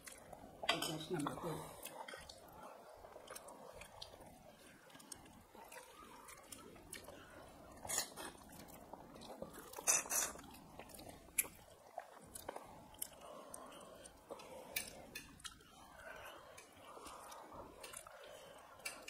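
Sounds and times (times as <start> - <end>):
people chewing food: 0.0 - 19.0.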